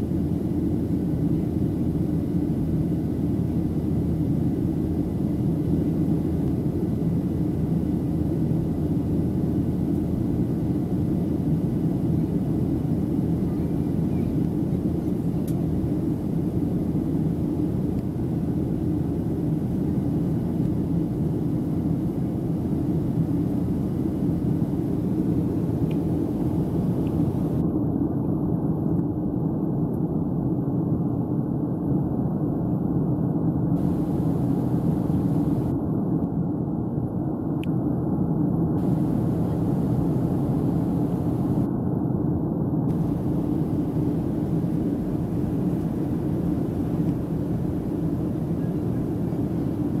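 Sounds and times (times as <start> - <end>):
airplane cabin engine drone: 0.0 - 50.0.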